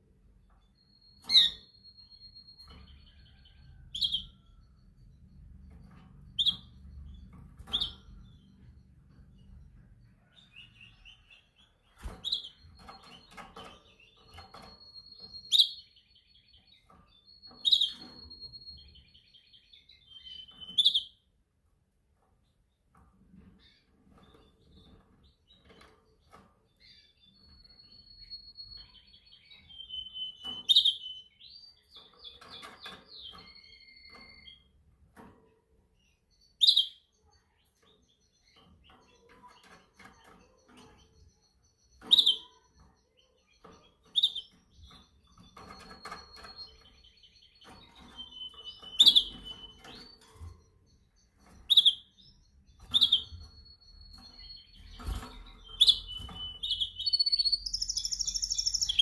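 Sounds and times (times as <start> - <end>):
canary chirping and trilling: 0.0 - 59.0.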